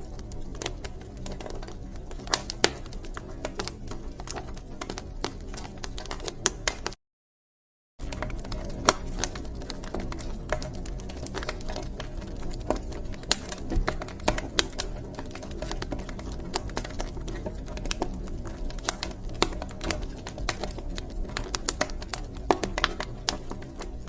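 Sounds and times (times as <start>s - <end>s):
wood fire crackling: 0.0s - 7.0s, 8.0s - 24.0s.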